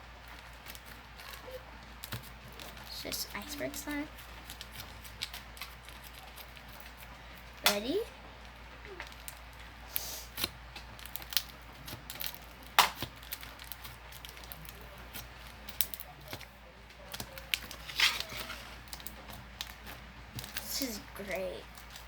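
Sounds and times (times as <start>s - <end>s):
slime crust crackling: 0.0s - 22.0s.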